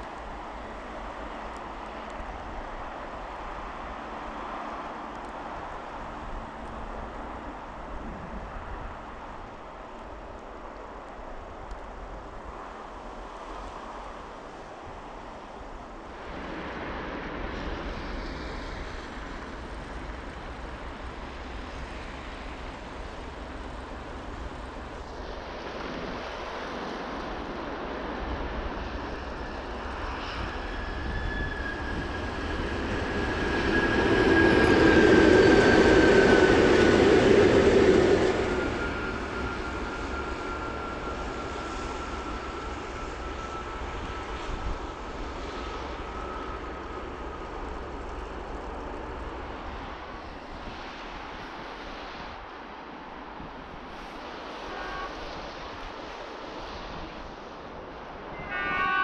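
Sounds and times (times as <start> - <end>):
electric train rumbling past: 0.0 - 59.0.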